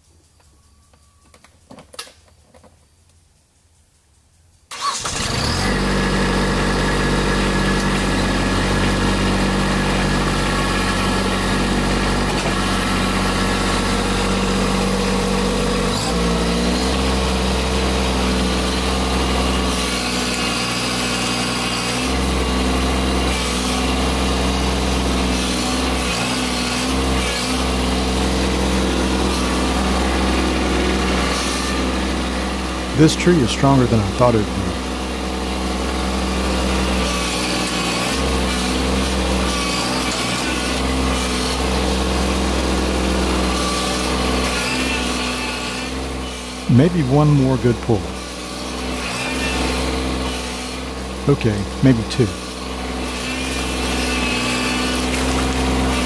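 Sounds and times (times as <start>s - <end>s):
tractor diesel engine running: 4.7s - 40.1s, 40.8s - 44.5s, 45.9s - 49.0s, 49.6s - 53.0s.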